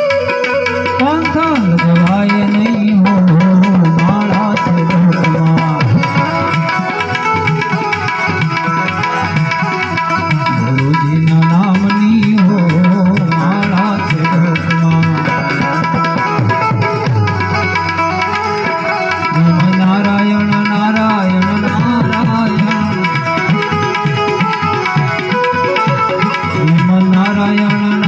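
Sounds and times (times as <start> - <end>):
harmonium melody: 0.0 - 28.0
tabla playing rhythm: 0.0 - 28.0.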